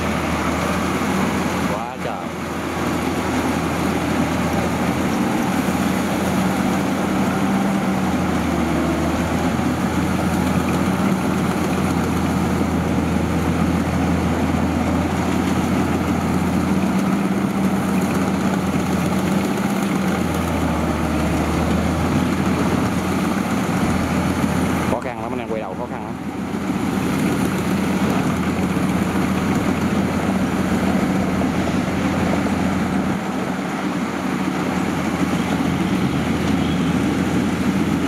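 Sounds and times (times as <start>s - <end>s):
combine harvester engine droning: 0.0s - 38.0s.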